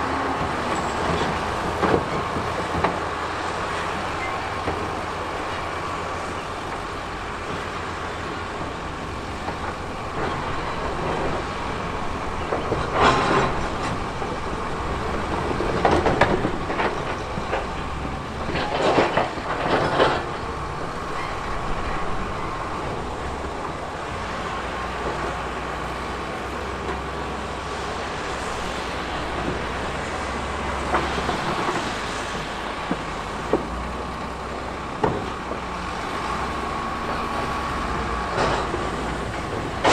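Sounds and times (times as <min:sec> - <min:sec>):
diesel engine rumbling: 0:00.0 - 0:39.9
heavy machinery scraping and clattering: 0:00.0 - 0:39.9.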